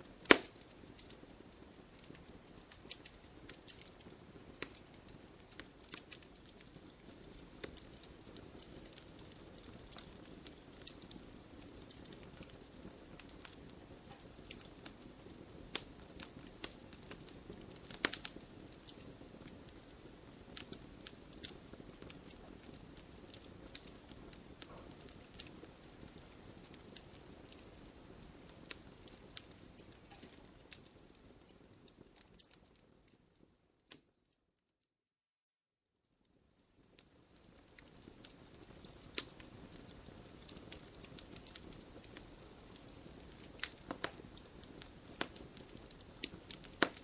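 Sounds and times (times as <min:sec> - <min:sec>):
wood fire crackling: 0:00.0 - 0:34.3, 0:36.2 - 0:47.0.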